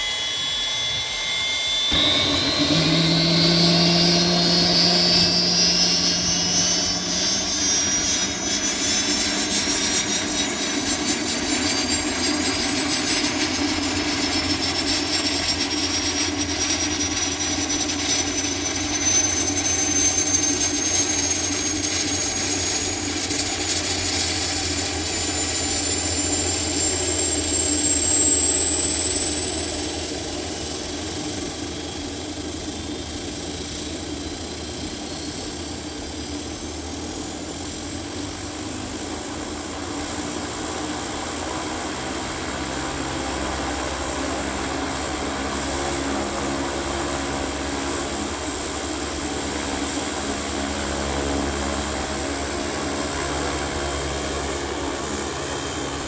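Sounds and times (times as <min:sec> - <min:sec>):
engine and propeller drone: 0:00.0 - 0:56.0
turbine whine: 0:00.0 - 0:56.0.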